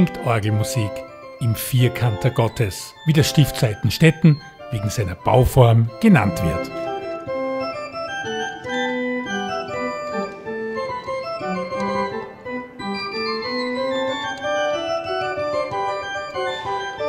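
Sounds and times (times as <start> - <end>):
pipe organ playing: 0.0 - 17.0.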